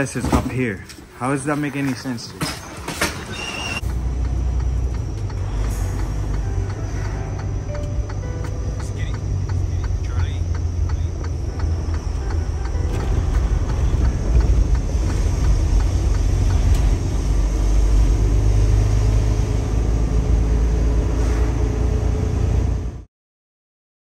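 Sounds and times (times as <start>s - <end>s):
truck engine and road noise: 0.0s - 23.1s.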